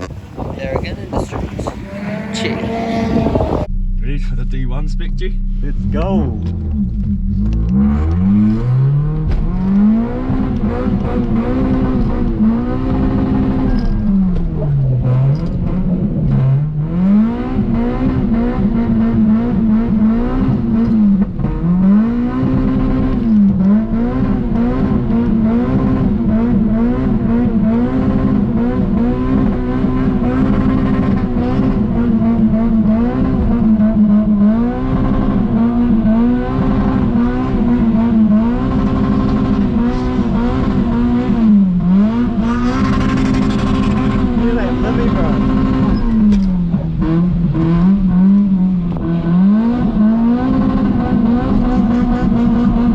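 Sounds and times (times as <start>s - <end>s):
car engine revving hard: 0.0s - 3.7s, 4.7s - 52.9s.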